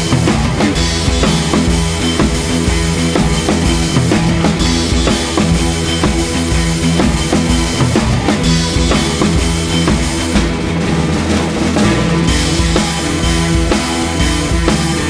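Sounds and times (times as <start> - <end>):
music with drum-kit beat: 0.0 - 15.0.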